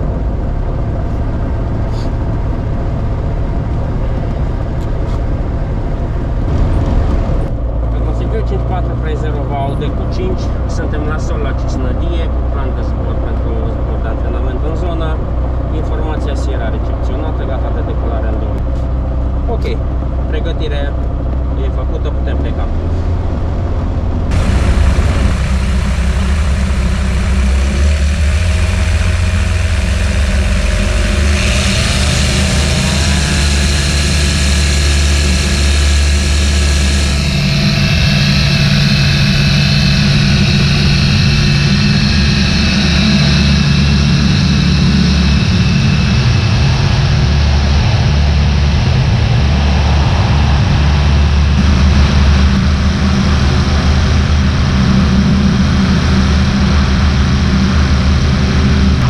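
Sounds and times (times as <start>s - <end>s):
propeller aeroplane engine running: 0.0s - 59.0s.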